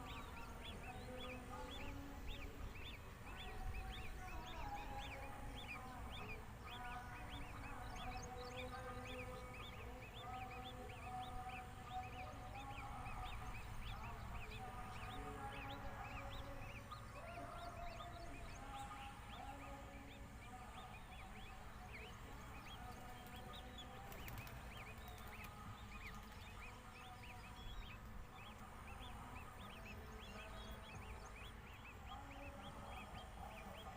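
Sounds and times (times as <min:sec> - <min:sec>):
birds chirping: 0:00.0 - 0:33.9
lower held bird calls: 0:00.0 - 0:33.9.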